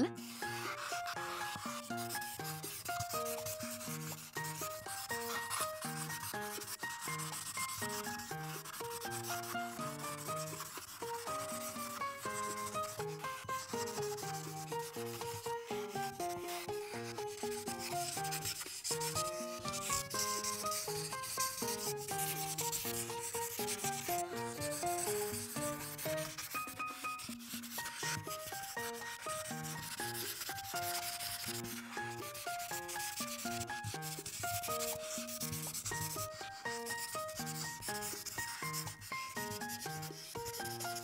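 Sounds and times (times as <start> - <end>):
marker scrubbing on paper: 0.0 - 41.0
simple background melody: 0.0 - 41.0.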